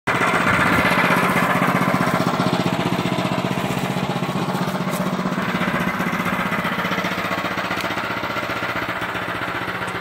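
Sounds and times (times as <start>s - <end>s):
sawmill engine throbbing: 0.1s - 10.0s
band blade sawing log: 0.3s - 10.0s.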